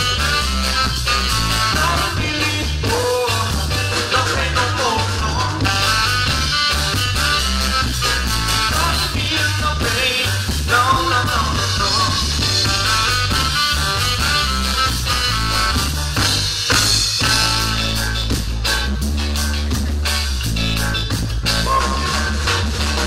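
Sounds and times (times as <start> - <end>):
saxophone: 0.0 - 18.8
live ska band playing: 0.0 - 23.0.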